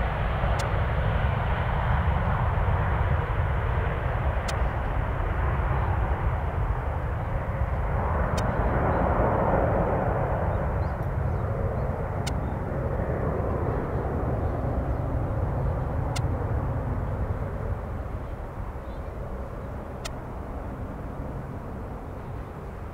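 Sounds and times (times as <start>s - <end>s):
jet engine rumble: 0.0s - 22.9s.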